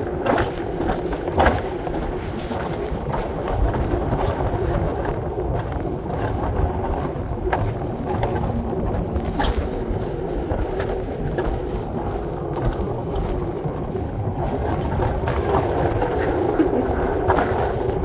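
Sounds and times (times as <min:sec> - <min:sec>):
sled wheels rumbling on rail: 0:00.0 - 0:18.0.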